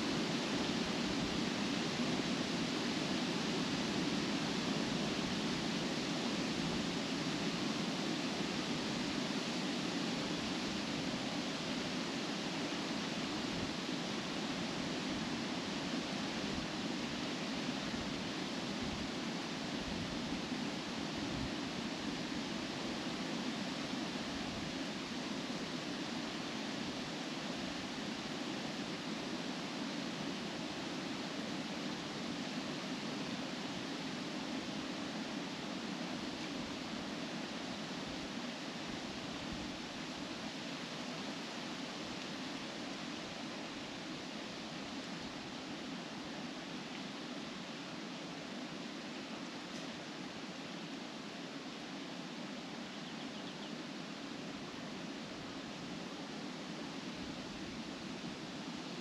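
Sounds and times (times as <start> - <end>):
wind rustling leaves in trees: 0.0 - 59.0.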